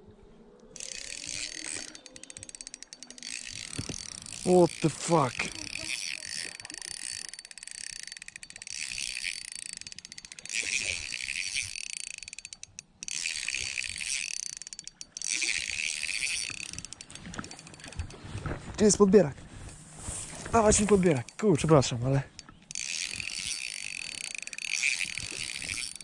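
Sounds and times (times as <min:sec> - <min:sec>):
fishing reel ticking: 0:00.8 - 0:18.6, 0:20.5 - 0:26.0.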